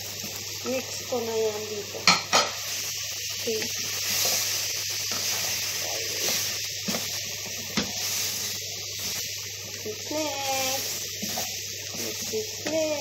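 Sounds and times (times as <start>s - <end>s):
chicken and vegetables sizzling: 0.0s - 13.0s.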